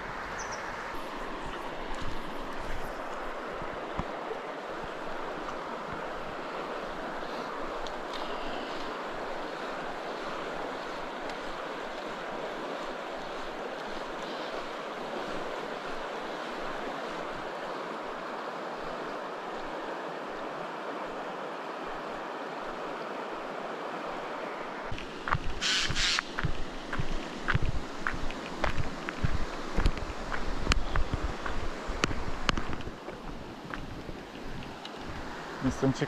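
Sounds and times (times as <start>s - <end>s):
river water rushing: 0.0s - 36.0s.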